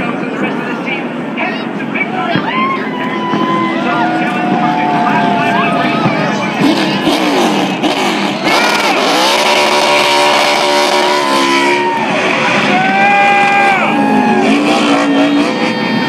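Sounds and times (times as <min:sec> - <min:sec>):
race truck engines passing: 0:00.0 - 0:16.0.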